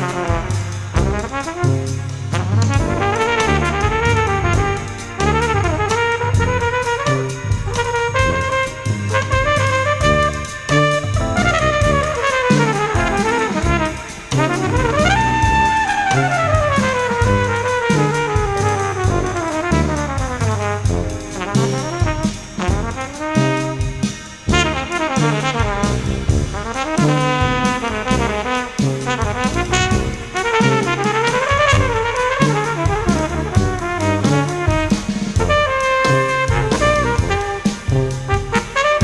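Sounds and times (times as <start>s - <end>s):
jazz brass ensemble: 0.0s - 39.0s
steady drum beat: 0.0s - 39.0s.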